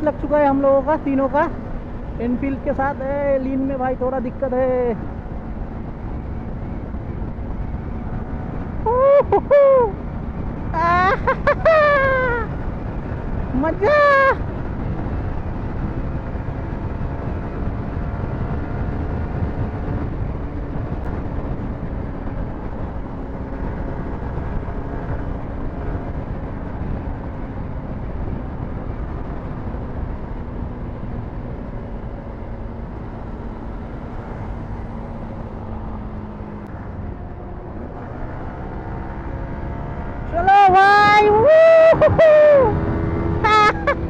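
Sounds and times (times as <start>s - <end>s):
motorcycle engine running: 0.0s - 44.0s
wind rumble on microphone: 0.0s - 44.0s.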